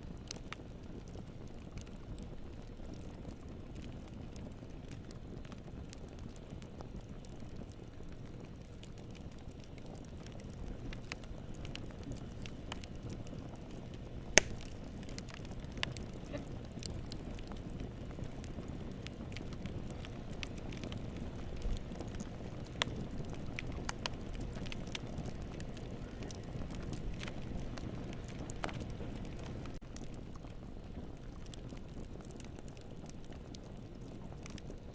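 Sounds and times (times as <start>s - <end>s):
fire crackling in a fireplace: 0.0s - 34.9s.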